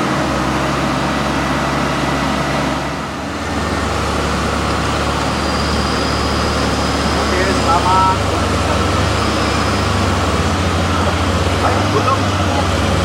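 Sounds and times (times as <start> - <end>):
heavy diesel engines working: 0.0 - 13.0.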